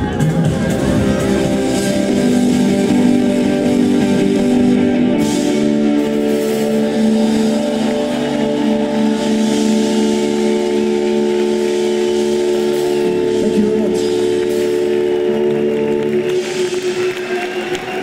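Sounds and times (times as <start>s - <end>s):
electric guitar chords: 0.0s - 18.0s.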